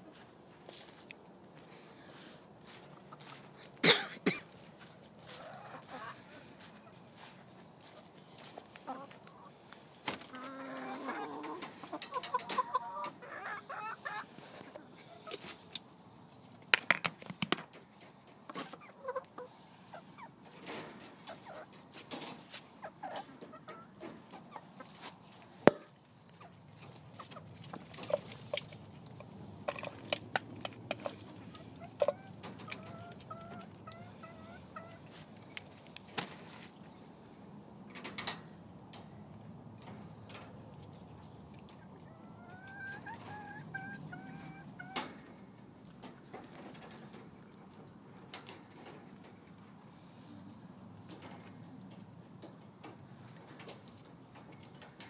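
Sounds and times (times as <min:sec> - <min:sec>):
hens clucking: 0:02.1 - 0:03.8, 0:04.4 - 0:16.4, 0:18.0 - 0:37.3, 0:39.5 - 0:55.0.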